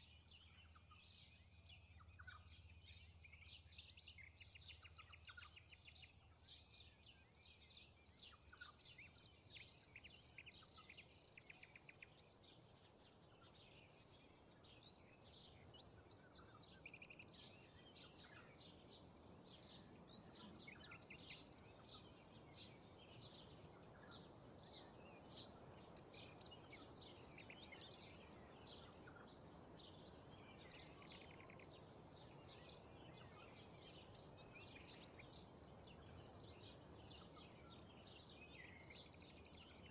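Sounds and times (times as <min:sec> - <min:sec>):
small birds chirping: 0:00.0 - 0:39.9
wind through grass and trees: 0:00.0 - 0:39.9.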